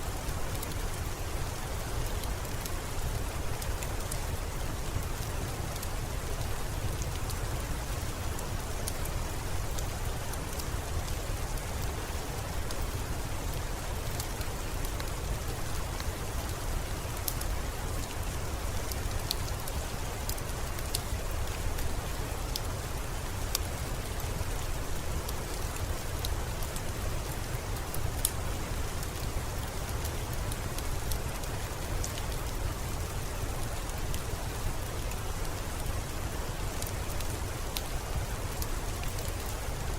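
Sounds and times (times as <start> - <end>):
steady rain: 0.0 - 39.9
wood fire crackling: 0.1 - 39.9.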